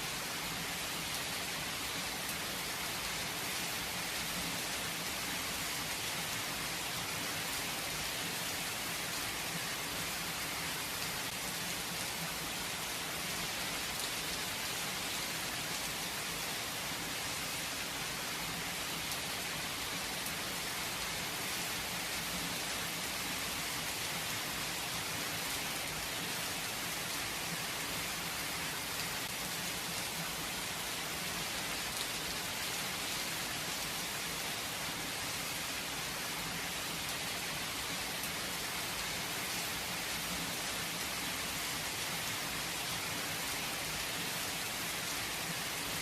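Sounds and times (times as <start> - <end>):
gentle rain falling: 0.0 - 46.0.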